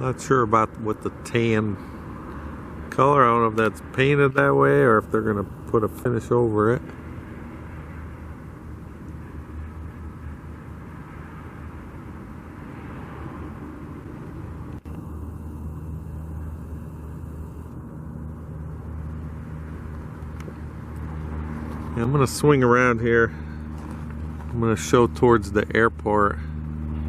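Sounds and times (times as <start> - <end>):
road and wind noise: 0.0 - 27.0
vehicle engine humming: 0.0 - 27.0.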